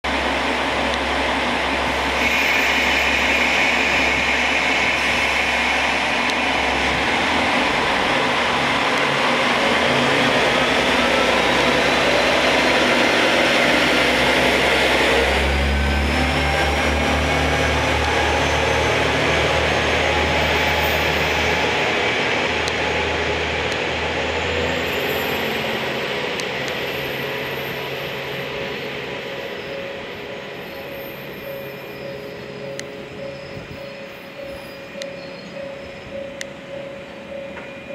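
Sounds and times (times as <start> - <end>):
diesel railcar engine whine: 0.0 - 37.9.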